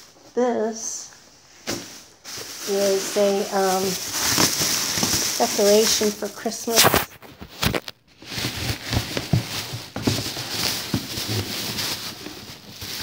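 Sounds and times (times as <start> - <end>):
rustling of rummaging: 1.5 - 13.0.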